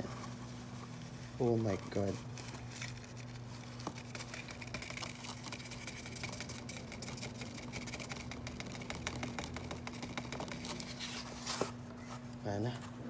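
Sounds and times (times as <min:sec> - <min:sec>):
paper casing crinkling and tapping: 0:00.0 - 0:12.4
steady low hum: 0:00.0 - 0:13.0.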